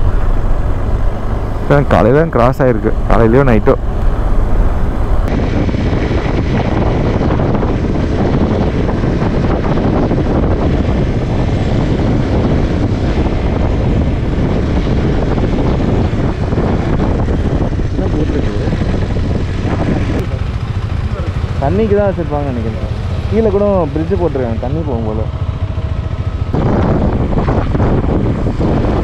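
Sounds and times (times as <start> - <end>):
motorcycle engine drone: 0.0 - 29.0
wind rush over microphone: 0.0 - 29.0.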